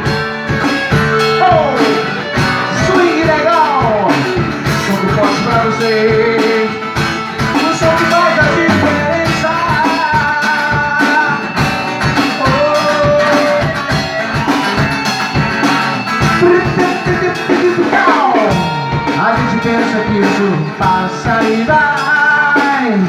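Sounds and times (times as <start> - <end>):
sustained melodic lead line: 0.0 - 21.9
drums keeping a steady beat: 0.0 - 23.0.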